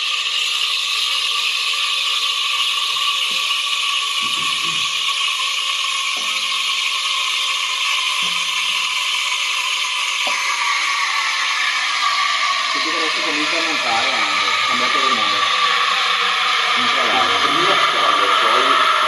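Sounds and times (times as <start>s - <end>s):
steam wand hissing: 0.0s - 19.0s.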